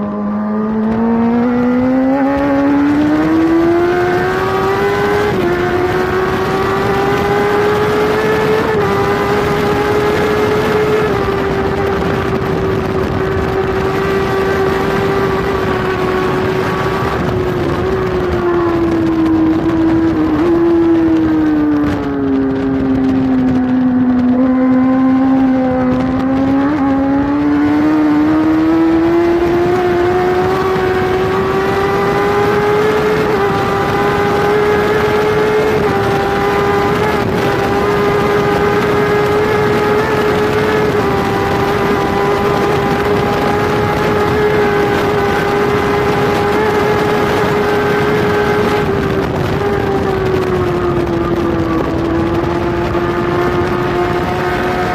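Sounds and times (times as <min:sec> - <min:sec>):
motorcycle engine racing: 0:00.0 - 0:54.9
wind rush over microphone: 0:00.0 - 0:54.9.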